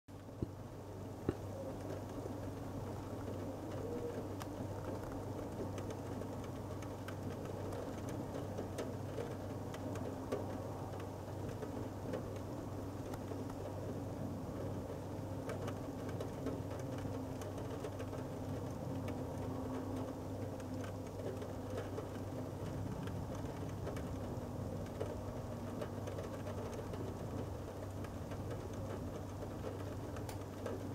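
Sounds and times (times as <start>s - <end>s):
constant low hum: 0.1s - 30.9s
raindrops ticking on window glass: 0.1s - 30.9s
steady rain: 0.1s - 30.9s.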